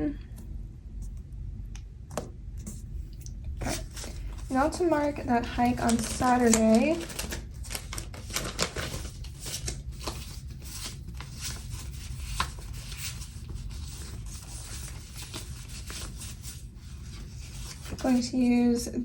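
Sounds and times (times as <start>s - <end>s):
sticker sheets crinkling and peeling: 2.6s - 18.6s.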